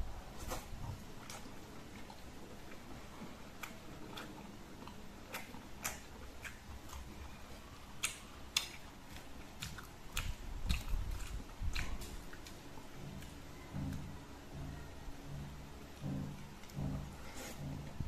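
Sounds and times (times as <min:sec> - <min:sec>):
chewing food: 0:00.4 - 0:18.0.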